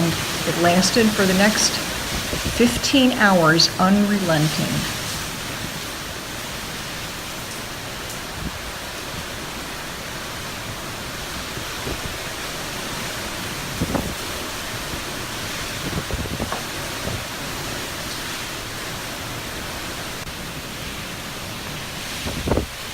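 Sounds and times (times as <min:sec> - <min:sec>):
hurricane wind rushing: 0:00.0 - 0:22.9.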